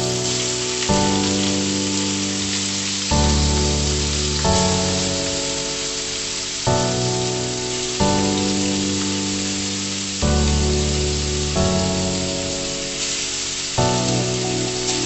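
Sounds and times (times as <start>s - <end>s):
background music of sustained chords: 0.0s - 15.0s
chicken sizzling in hot oil: 0.0s - 15.0s.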